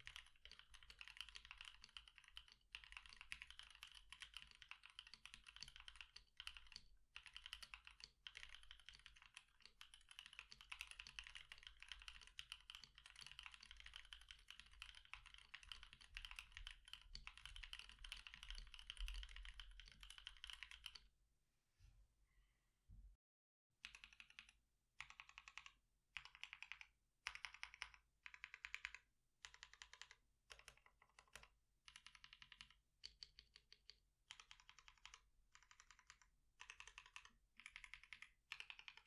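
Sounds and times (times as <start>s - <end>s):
fast mechanical keyboard typing: 0.0s - 21.0s, 23.8s - 39.0s.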